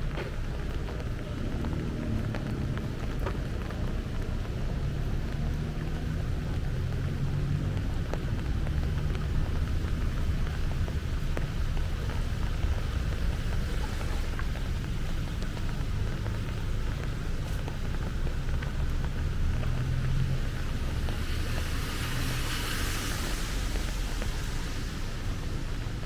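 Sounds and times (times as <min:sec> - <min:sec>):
heavy rain falling: 0:00.0 - 0:26.0
low rumble: 0:00.0 - 0:26.0.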